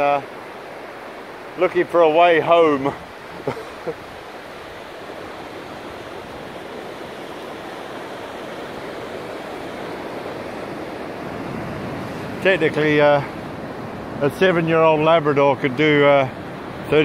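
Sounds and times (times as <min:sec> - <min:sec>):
waves on a beach: 0:00.0 - 0:17.0.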